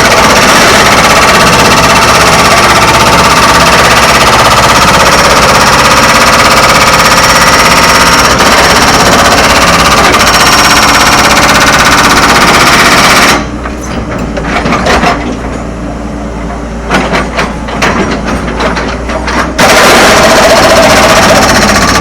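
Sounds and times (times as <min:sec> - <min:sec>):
rock breaker hammering on rock: 0:00.0 - 0:13.5, 0:17.0 - 0:22.0
engine running steadily: 0:00.0 - 0:22.0.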